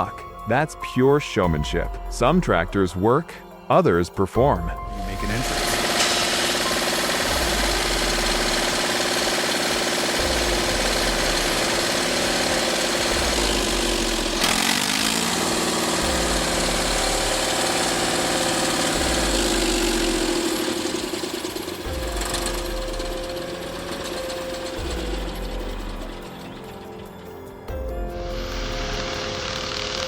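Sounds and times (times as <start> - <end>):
tractor diesel engine running: 4.4 - 30.0.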